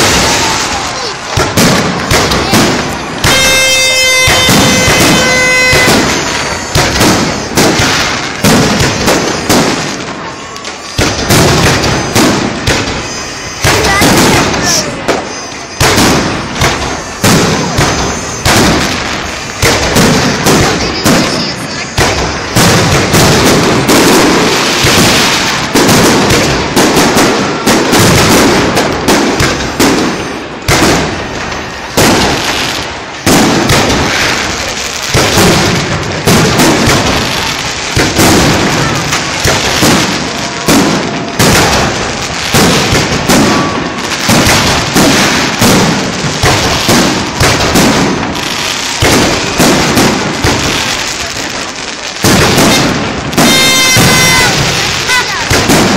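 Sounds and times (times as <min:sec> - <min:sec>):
fireworks bursting with loud bangs: 0:00.0 - 0:55.9.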